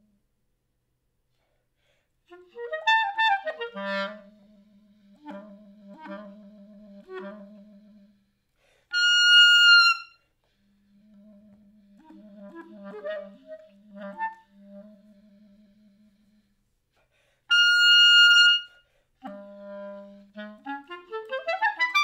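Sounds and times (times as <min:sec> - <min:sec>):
solo clarinet: 0:02.2 - 0:16.6, 0:17.5 - 0:22.0.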